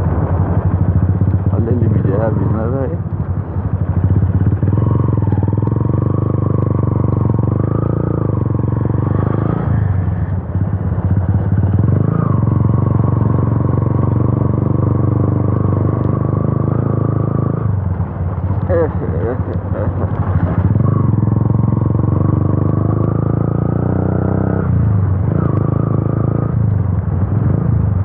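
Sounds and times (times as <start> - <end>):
motorcycle engine running loud: 0.0 - 28.0.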